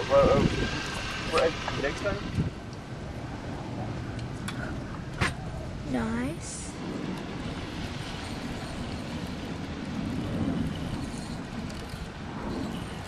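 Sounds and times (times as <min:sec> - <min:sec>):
boat and water noise: 0:00.0 - 0:13.0
wind rumble on microphone: 0:00.0 - 0:13.0.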